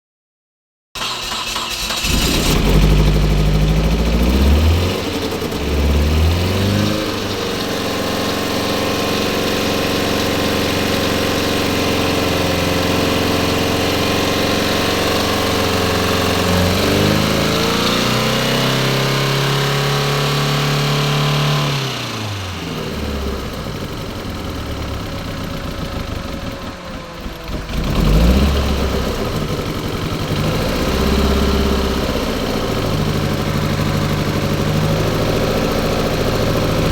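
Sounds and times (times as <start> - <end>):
car engine revving: 1.0 - 36.9.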